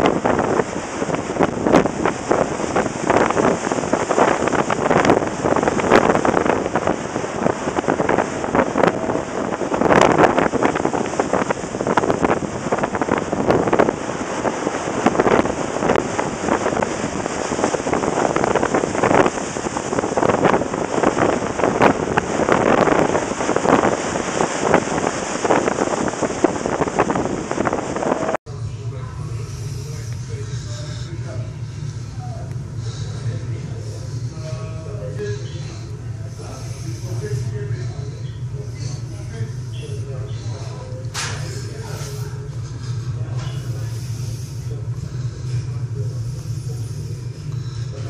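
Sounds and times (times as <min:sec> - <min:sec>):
sea rushing: 0:00.0 - 0:48.0
wind buffeting the microphone: 0:00.0 - 0:48.0.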